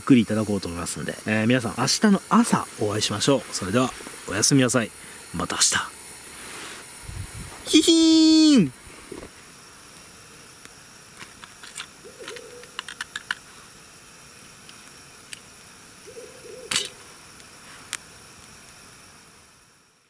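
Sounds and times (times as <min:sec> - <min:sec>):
campfire crackling and popping: 0:00.0 - 0:07.6, 0:08.7 - 0:20.0
faint hiss: 0:00.0 - 0:20.0.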